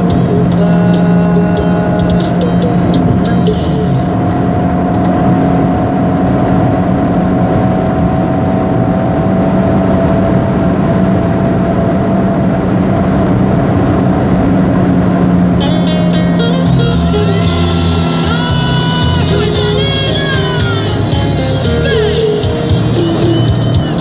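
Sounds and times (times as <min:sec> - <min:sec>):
car engine hum: 0:00.0 - 0:24.0
tyre and road noise: 0:00.0 - 0:24.0.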